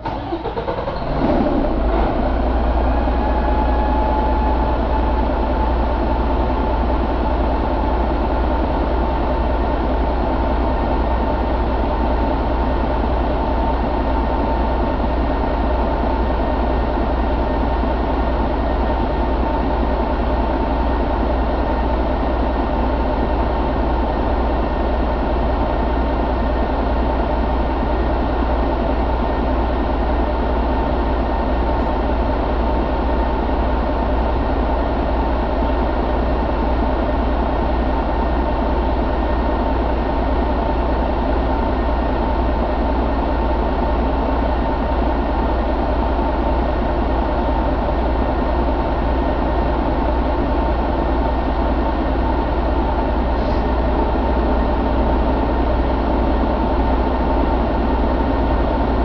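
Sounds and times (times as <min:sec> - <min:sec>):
diesel engine idling: 0:00.0 - 0:59.0
high engine whine: 0:00.0 - 0:59.0.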